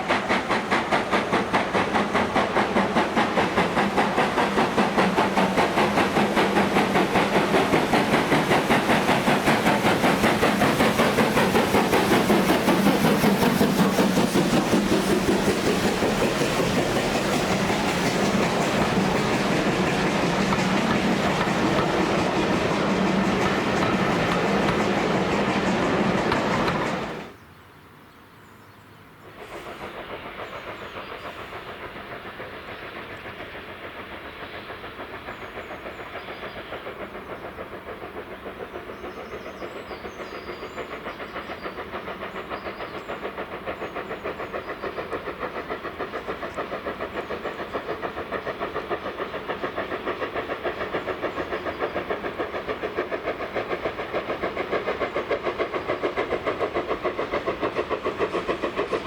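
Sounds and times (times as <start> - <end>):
steam locomotive exhaust beats: 0.0 - 27.4, 28.8 - 59.0.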